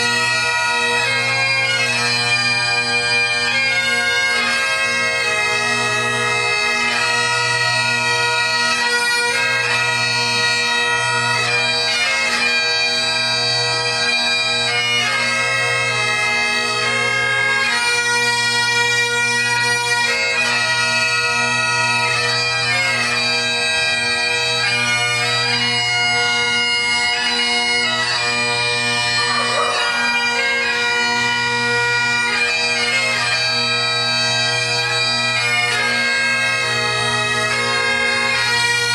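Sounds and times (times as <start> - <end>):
bagpipe drones humming: 0.0 - 38.9
bagpipes playing a tune: 0.0 - 38.9.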